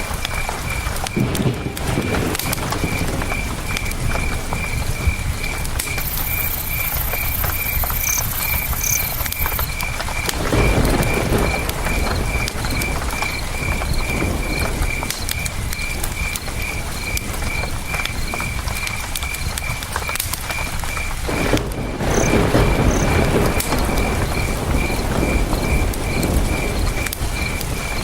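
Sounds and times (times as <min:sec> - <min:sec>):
campfire crackling: 0:00.0 - 0:28.0
cricket chirping: 0:00.0 - 0:28.0.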